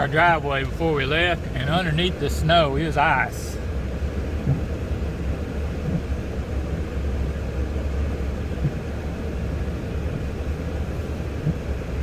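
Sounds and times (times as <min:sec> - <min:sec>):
engine and road noise in cab: 0:00.0 - 0:12.0.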